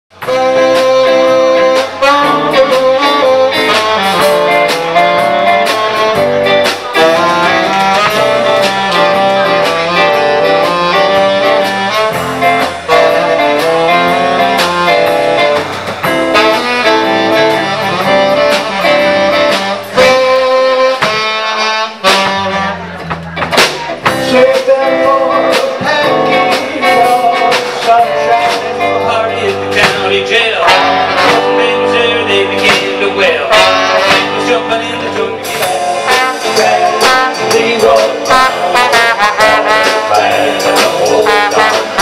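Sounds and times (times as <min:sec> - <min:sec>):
drum kit beat: 0:00.1 - 0:42.0
electric guitar: 0:00.1 - 0:42.0
saxophone melody: 0:00.1 - 0:42.0.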